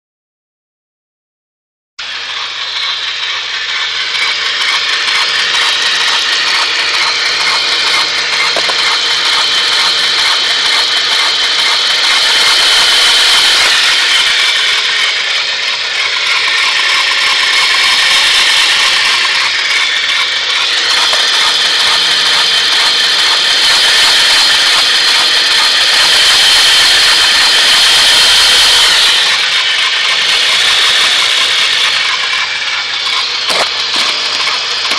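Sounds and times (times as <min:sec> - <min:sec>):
car engine running: 0:02.0 - 0:34.9
loud rubbing noise: 0:02.0 - 0:34.9.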